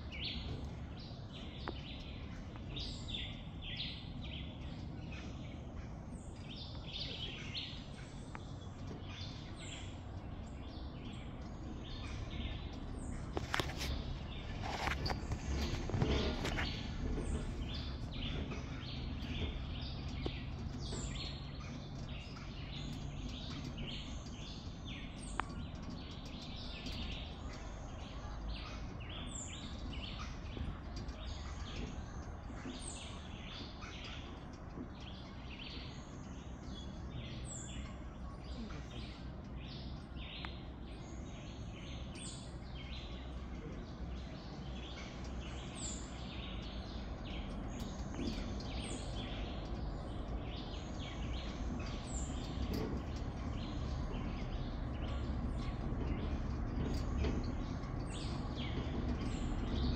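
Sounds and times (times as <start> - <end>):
birds chirping: 0.0 - 59.9
low steady rumble: 0.0 - 59.9.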